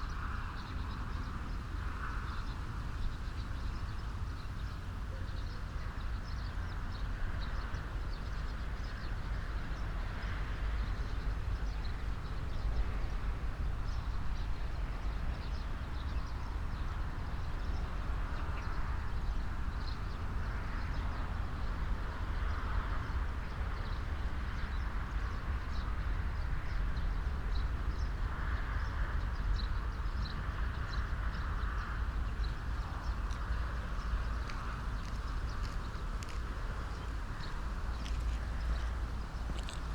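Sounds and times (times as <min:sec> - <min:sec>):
low wind rumble on microphone: 0:00.0 - 0:39.9.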